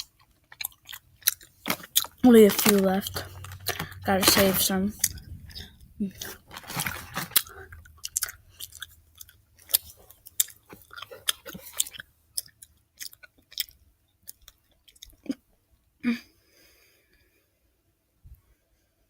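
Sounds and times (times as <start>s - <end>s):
chewing gummy candy: 0.0s - 15.5s.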